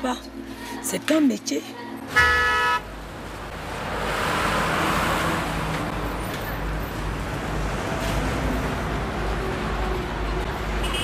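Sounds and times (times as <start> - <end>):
road noise: 0.0 - 11.0
vehicle engines passing: 0.0 - 11.0.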